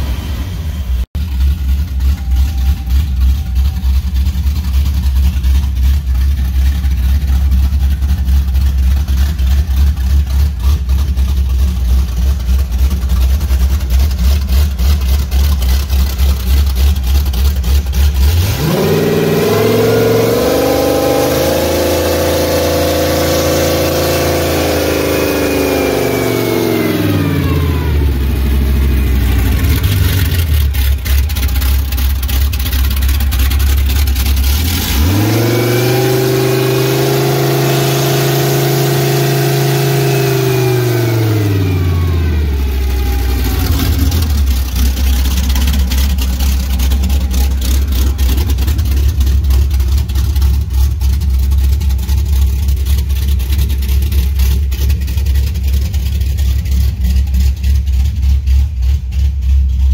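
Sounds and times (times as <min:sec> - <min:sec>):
boat engine revving and idling: 0:00.0 - 0:59.9.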